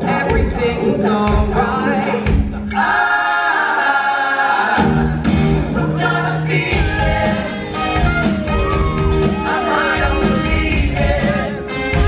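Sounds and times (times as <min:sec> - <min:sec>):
live pop-rock band: 0:00.0 - 0:12.0
singers in harmony: 0:00.0 - 0:12.0.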